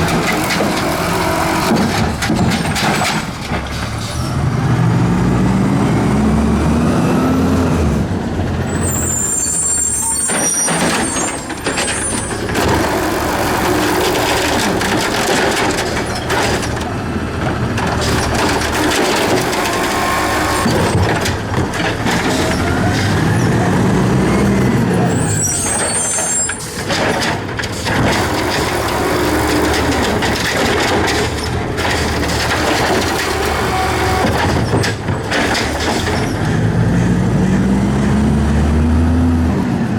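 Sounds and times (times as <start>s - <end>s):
garbage truck diesel engine revving: 0.0s - 39.9s.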